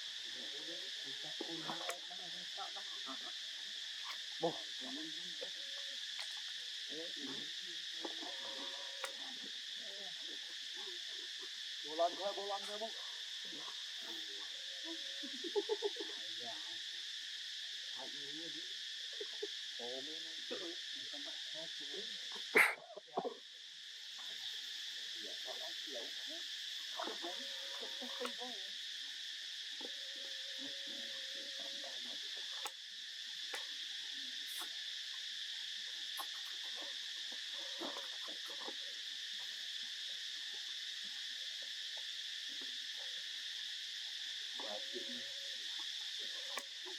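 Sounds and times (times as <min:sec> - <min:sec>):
insects chirring: 0:00.0 - 0:46.9.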